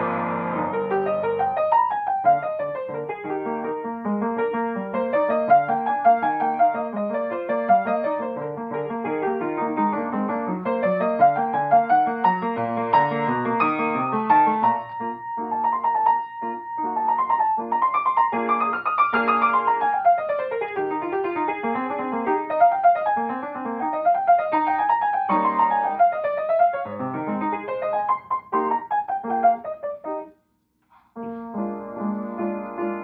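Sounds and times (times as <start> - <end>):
fast classical piano piece: 0.0 - 33.0.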